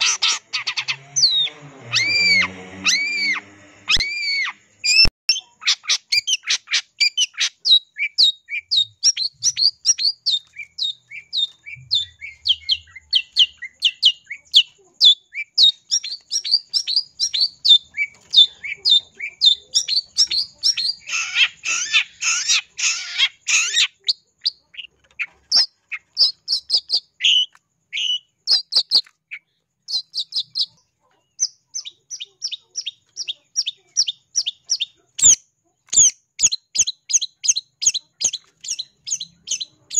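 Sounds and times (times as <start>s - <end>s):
bird rasping chatter: 0.0s - 39.9s.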